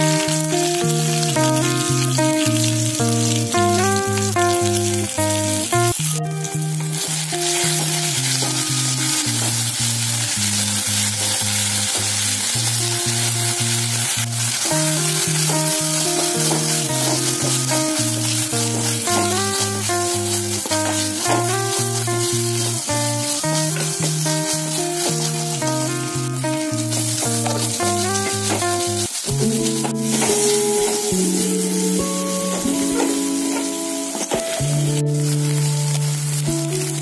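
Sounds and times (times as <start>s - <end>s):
background music: 0.0s - 37.0s
spices and onion sizzling in ghee: 0.0s - 37.0s.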